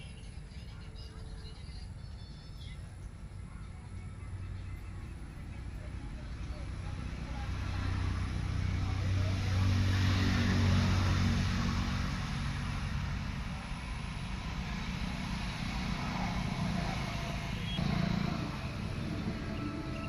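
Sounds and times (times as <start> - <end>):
faint outdoor background noise: 0.0 - 20.0
low engine drone: 0.0 - 20.0.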